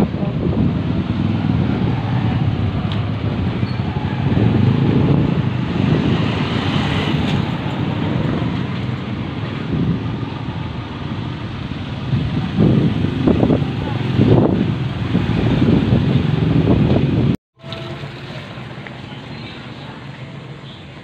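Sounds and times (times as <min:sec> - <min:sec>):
steady traffic rumble: 0:00.0 - 0:21.0.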